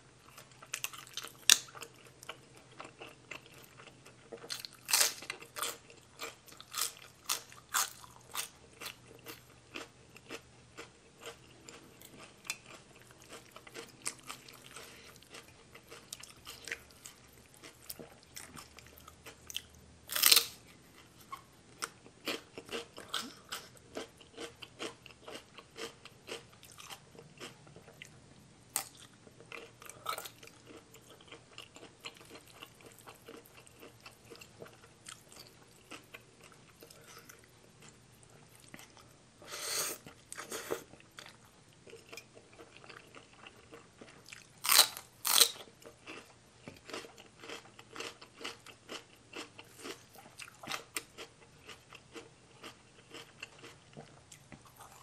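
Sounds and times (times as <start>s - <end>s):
person chewing crunchy vegetables: 0.2s - 55.0s.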